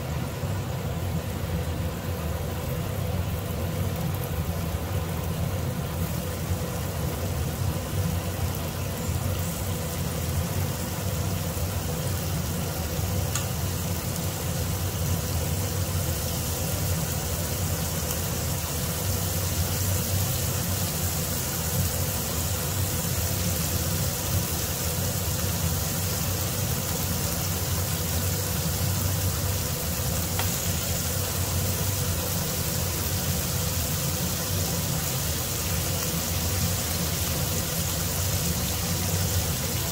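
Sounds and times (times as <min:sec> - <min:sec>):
meat sizzling in a pan: 0:00.0 - 0:39.9
steady low hum: 0:00.0 - 0:39.9.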